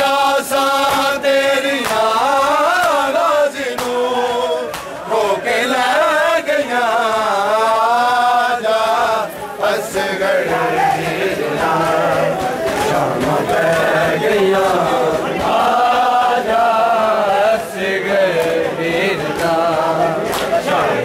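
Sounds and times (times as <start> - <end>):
men chanting a mourning lament: 0.0 - 21.0.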